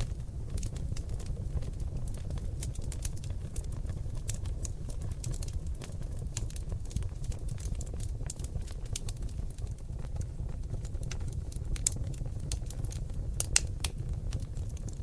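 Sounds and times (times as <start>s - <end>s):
logs crackling in a fireplace: 0.0s - 15.0s
low rumble of flames: 0.0s - 15.0s.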